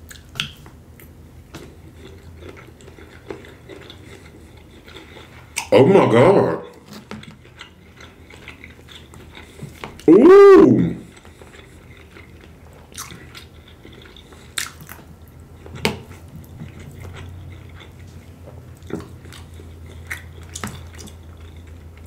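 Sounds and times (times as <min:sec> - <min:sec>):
close chewing: 0:00.0 - 0:05.7, 0:06.5 - 0:10.1, 0:11.0 - 0:22.0
low steady hum: 0:00.0 - 0:22.0.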